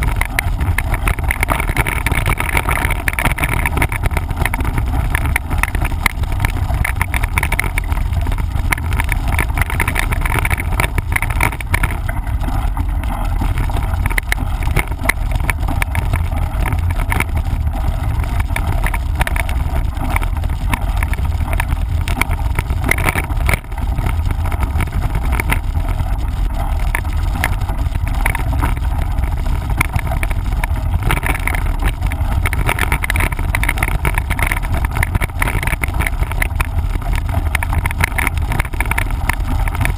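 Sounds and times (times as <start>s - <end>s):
bike rattling on rough trail: 0.0s - 39.9s
wind on microphone: 0.0s - 39.9s.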